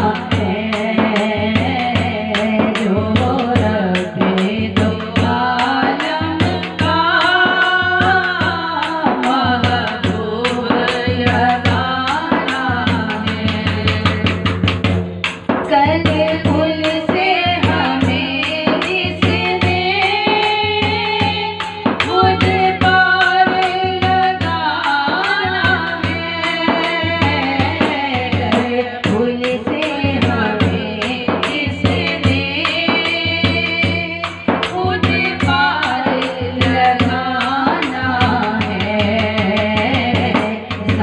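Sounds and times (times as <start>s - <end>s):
steady percussion beat: 0.0s - 41.0s
women singing devotional chant: 0.0s - 41.0s.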